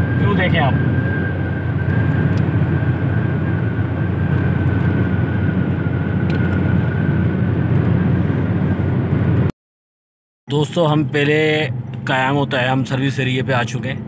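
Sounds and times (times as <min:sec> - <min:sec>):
car road and wind noise: 0:00.0 - 0:09.5, 0:10.5 - 0:14.0.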